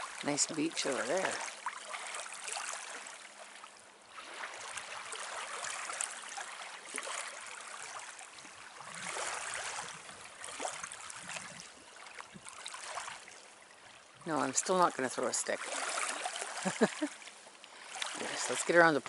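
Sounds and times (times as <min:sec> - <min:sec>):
water lapping at shore: 0:00.0 - 0:19.0.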